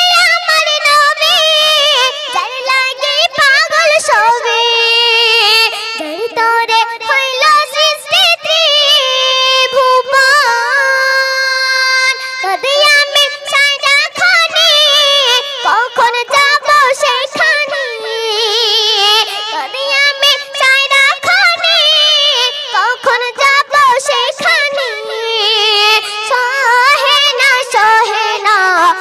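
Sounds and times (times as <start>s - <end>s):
boy singing into microphone: 0.0s - 29.0s.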